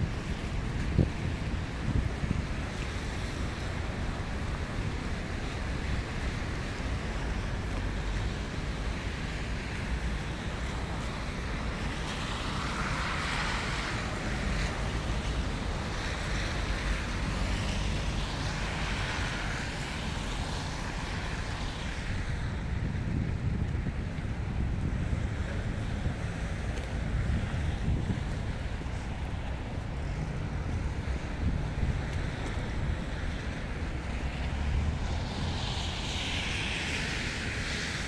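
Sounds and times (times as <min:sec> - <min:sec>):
passing vehicles: 0:00.0 - 0:38.0
steady low traffic rumble: 0:00.0 - 0:38.0.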